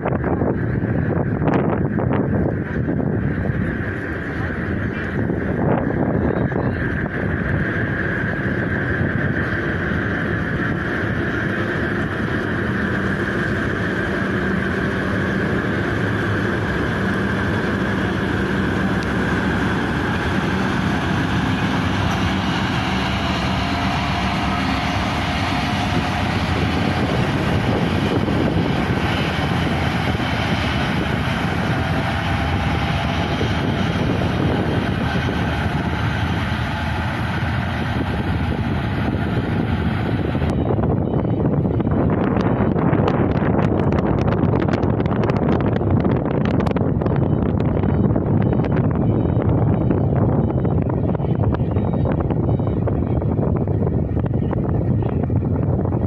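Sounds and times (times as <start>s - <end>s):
churning water from propellers: 0.0s - 56.0s
ferry engines droning: 0.0s - 56.0s
high whine: 0.0s - 56.0s.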